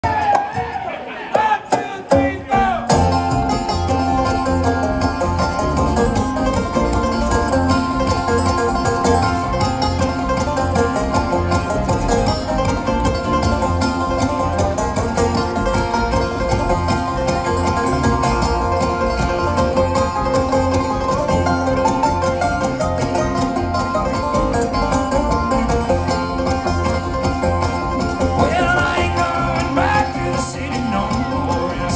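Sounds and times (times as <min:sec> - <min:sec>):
acoustic guitar: 0:00.0 - 0:31.9
banjo: 0:00.0 - 0:31.9
mandolin: 0:00.0 - 0:31.9
upright bass: 0:02.1 - 0:31.9.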